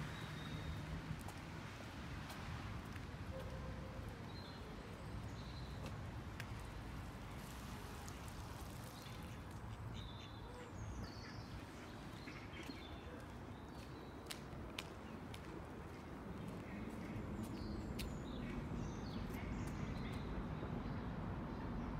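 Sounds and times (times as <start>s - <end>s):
footsteps on wet pavement: 0.0s - 10.0s, 11.4s - 20.2s.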